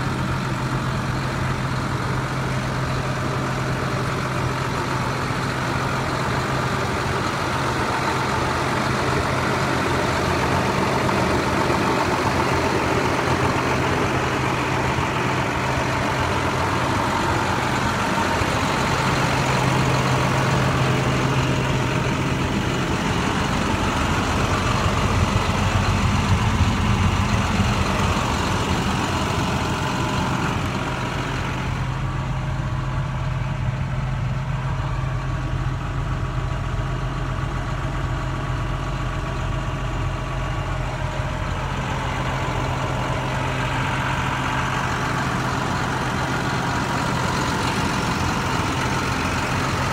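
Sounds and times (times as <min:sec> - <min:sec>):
diesel truck engine idling: 0:00.0 - 0:49.9.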